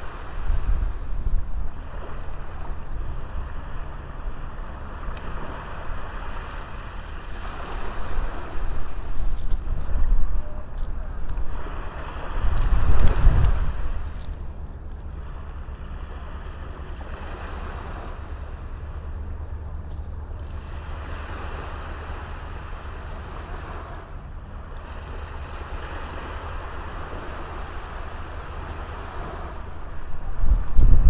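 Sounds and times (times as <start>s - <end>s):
small sea waves washing onto beach: 0.0s - 31.0s
wind rumble on microphone: 0.0s - 31.0s.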